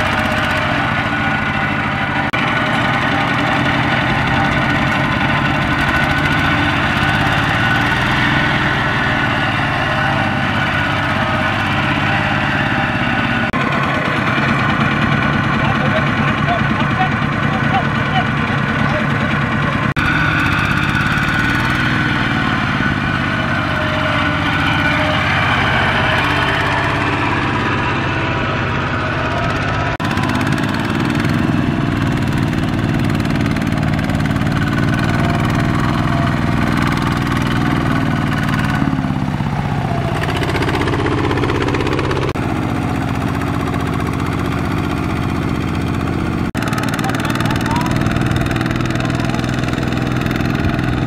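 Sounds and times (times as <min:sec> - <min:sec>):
diesel tractor engine running: 0:00.0 - 0:51.0.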